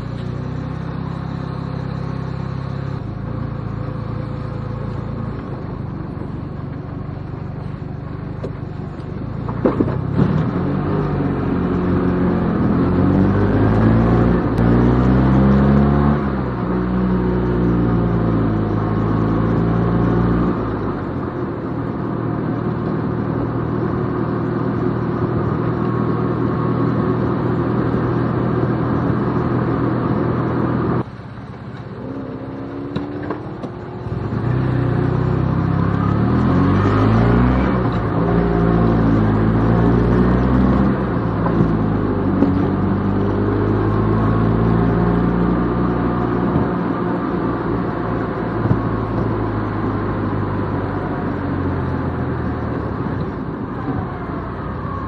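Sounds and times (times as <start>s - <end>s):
small car engine driving: 0.0s - 55.0s.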